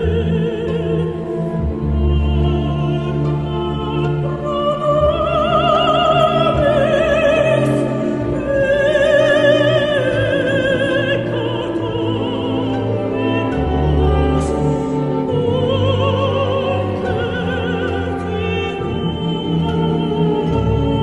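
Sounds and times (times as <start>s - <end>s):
orchestral accompaniment: 0.0s - 21.0s.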